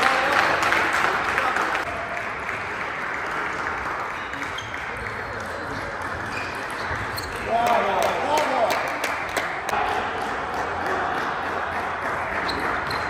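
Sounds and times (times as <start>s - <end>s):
small group clapping: 0.0s - 13.0s.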